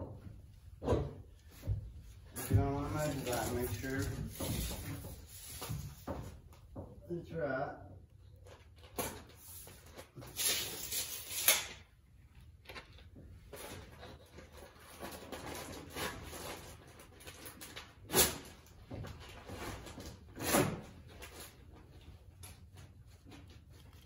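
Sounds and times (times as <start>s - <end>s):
rustling of materials handled: 0.6s - 6.8s, 8.3s - 24.0s.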